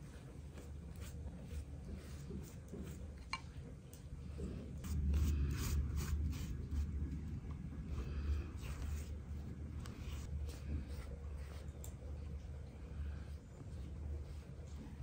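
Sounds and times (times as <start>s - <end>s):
pastry brush strokes: 0.0s - 3.6s, 4.2s - 15.0s
steady low hum: 0.0s - 15.0s.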